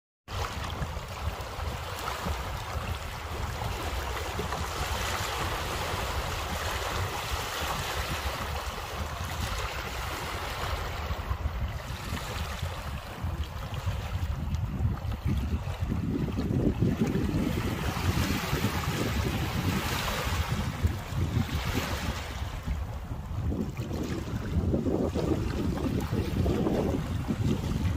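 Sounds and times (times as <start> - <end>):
waves lapping on stony shore: 0.3 - 27.9
wind rumbling on microphone: 0.3 - 27.9.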